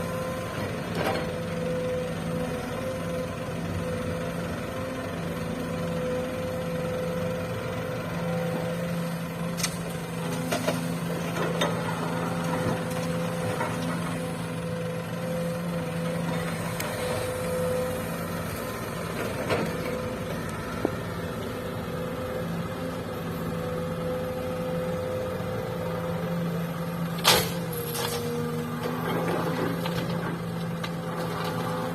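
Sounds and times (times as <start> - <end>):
diesel engines running: 0.0 - 31.9.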